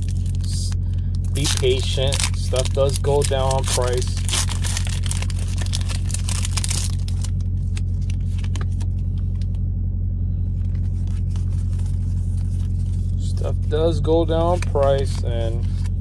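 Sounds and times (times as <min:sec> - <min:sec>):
foil wrapper crinkling and tearing: 0:00.0 - 0:09.5, 0:10.6 - 0:13.7, 0:14.4 - 0:16.0
trading cards being handled: 0:00.0 - 0:09.6, 0:10.5 - 0:16.0
low engine drone: 0:00.0 - 0:16.0.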